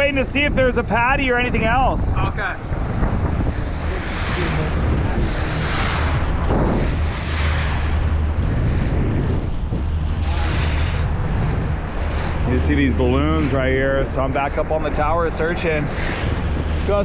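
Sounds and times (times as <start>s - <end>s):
boat engine drone: 0.0s - 17.0s
water rushing along hull: 0.0s - 17.0s
wind buffeting the microphone: 0.0s - 17.0s.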